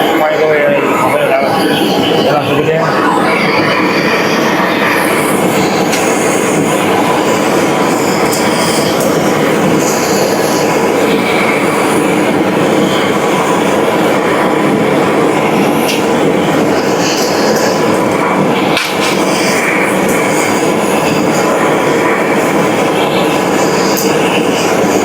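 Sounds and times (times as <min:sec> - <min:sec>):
loud mechanical running noise: 0:00.0 - 0:25.0.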